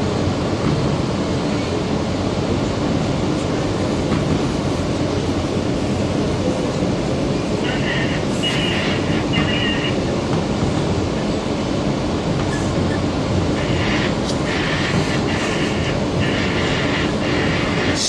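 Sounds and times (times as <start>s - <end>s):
subway wheels rumbling on rail: 0.0s - 18.0s.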